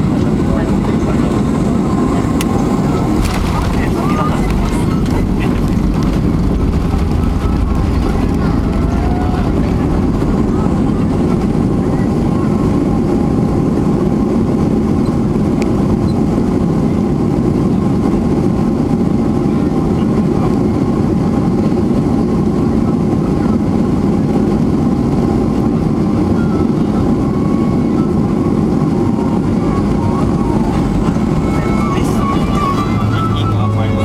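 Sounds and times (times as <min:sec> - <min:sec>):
airliner cabin engine roar: 0:00.0 - 0:34.0.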